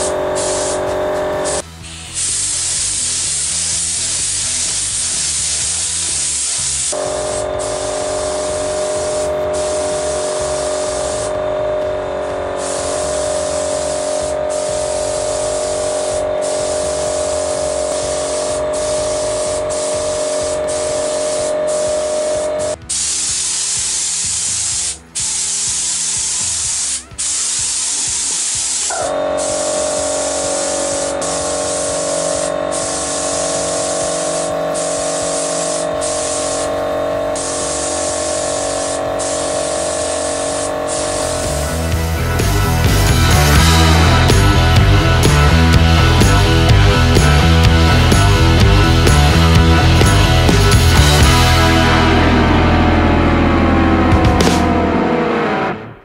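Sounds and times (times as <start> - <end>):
paint spray gun hissing: 0.0 - 52.6.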